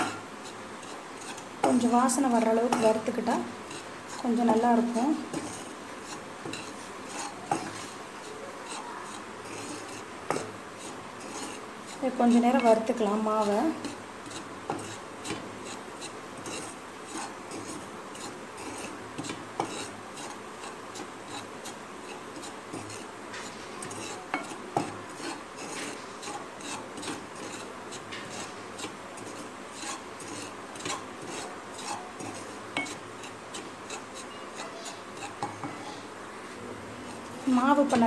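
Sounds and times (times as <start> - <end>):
spatula scraping flour in pan: 0.0 - 36.1, 37.0 - 38.0.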